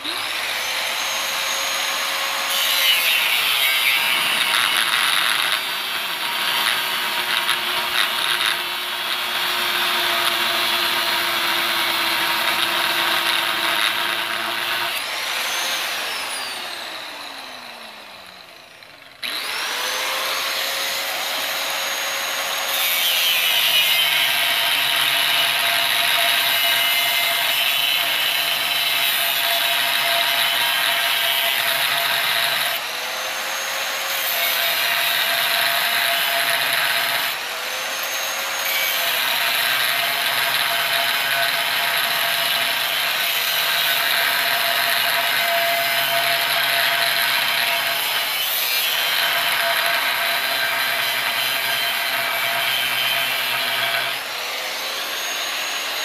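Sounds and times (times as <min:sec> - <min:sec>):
power tool cutting metal: 0:00.0 - 0:56.0.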